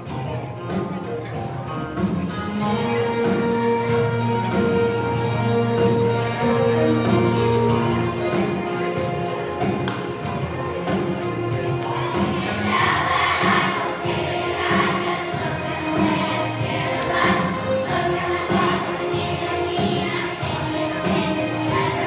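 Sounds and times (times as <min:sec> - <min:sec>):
musical accompaniment with steady beat: 0:00.0 - 0:22.0
children's choir singing: 0:02.6 - 0:22.0.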